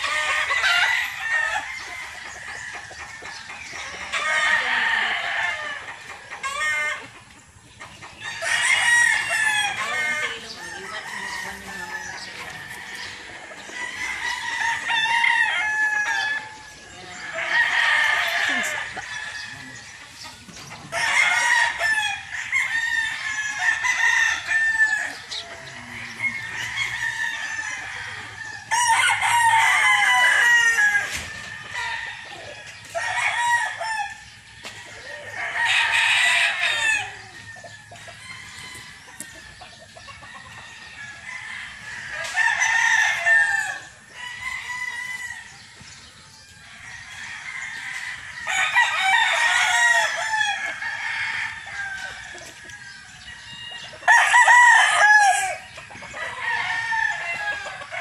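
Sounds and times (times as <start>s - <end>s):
roosters crowing: 0.0s - 58.0s.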